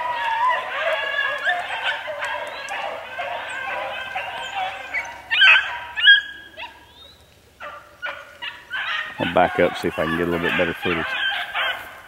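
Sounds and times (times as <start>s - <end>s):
hounds baying in chorus: 0.0s - 12.0s
nearer hound baying loudly: 0.0s - 12.0s.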